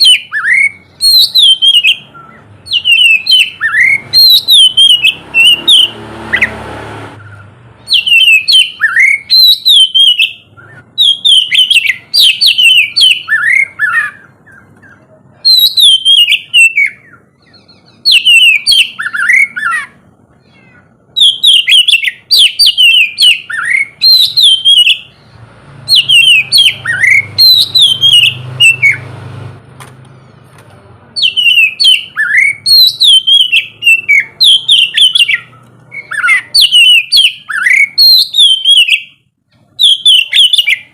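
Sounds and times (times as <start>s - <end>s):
bird singing whistled notes: 0.0s - 6.6s, 7.2s - 20.0s, 21.2s - 29.1s, 31.2s - 39.2s, 39.8s - 40.9s.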